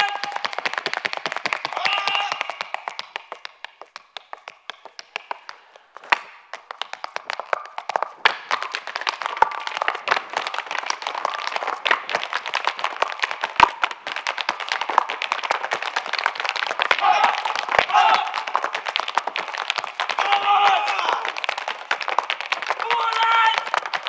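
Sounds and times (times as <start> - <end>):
hard shoes tapping on stage: 0.0 - 24.0.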